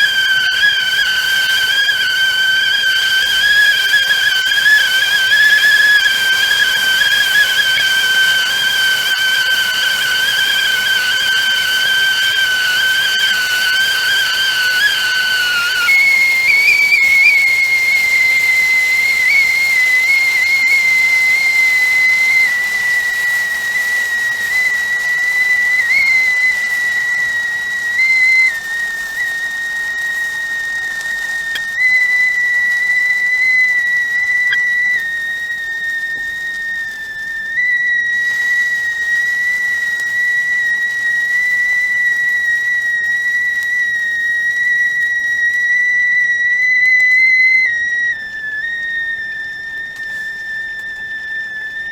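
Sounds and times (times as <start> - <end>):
hissing steam: 0.0 - 51.9
teapot whistling: 0.0 - 51.9.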